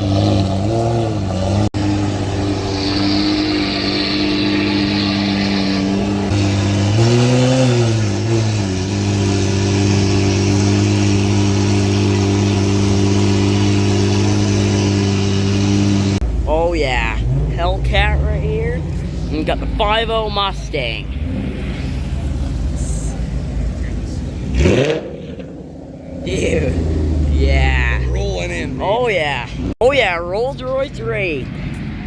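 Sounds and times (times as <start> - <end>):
car engine running: 0.0 - 32.0
engine revving: 0.0 - 32.0.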